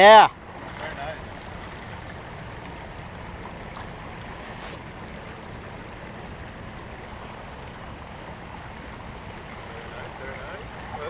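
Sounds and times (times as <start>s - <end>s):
stream flowing: 0.0s - 11.0s.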